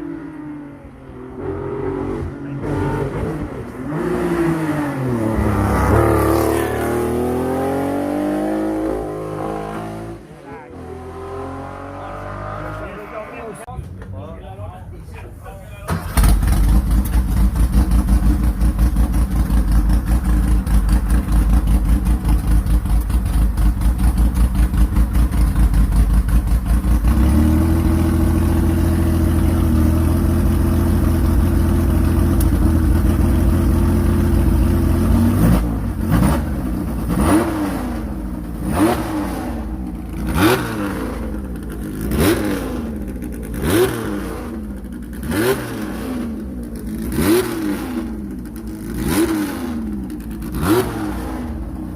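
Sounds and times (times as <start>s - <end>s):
car engine revving: 0.0s - 13.7s, 15.9s - 51.9s.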